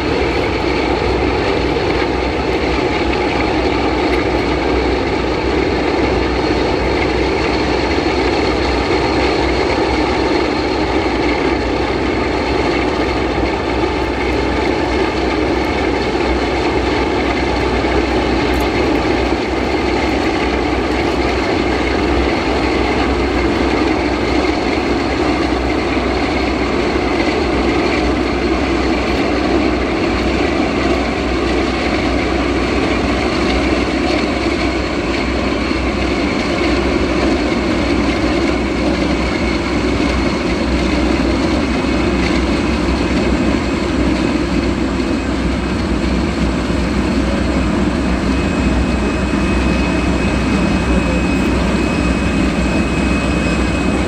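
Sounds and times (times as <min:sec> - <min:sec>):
aircraft engines running: 0:00.0 - 0:54.0
thin steady whining tones: 0:00.0 - 0:54.0.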